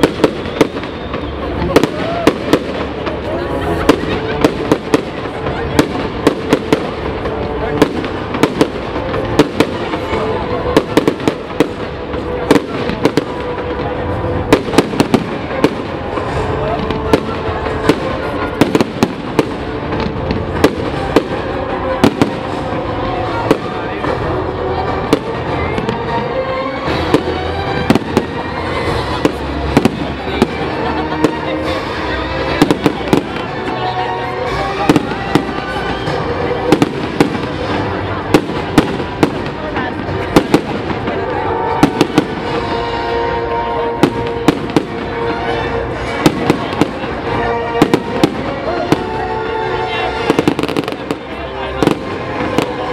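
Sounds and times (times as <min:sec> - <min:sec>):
fireworks bangs and cracks: 0:00.0 - 0:52.9
music playing: 0:00.0 - 0:52.9.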